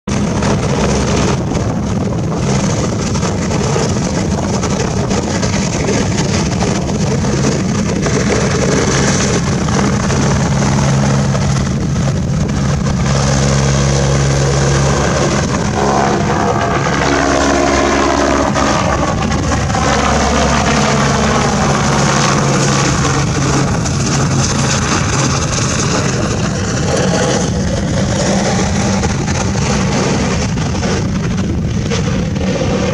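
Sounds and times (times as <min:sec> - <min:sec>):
helicopter rotor and turbine noise: 0:00.0 - 0:32.9.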